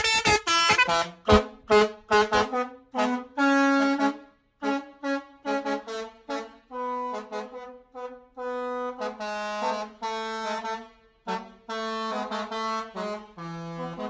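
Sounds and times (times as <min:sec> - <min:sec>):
multi-tone bus horn tune: 0:00.0 - 0:14.0.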